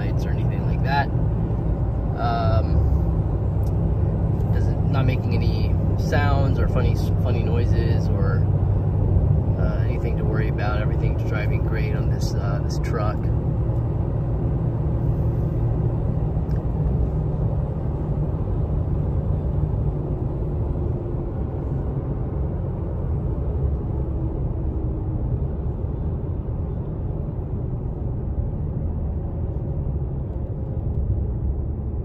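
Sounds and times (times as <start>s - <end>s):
truck engine and road noise: 0.0s - 32.0s.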